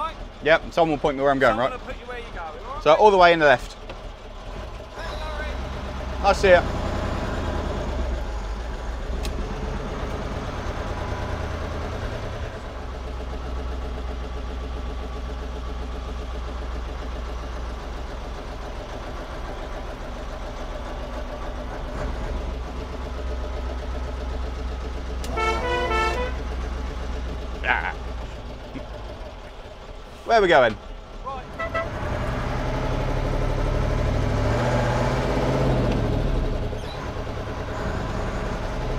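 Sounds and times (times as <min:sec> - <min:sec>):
fire engine rumbling: 0:00.0 - 0:38.9.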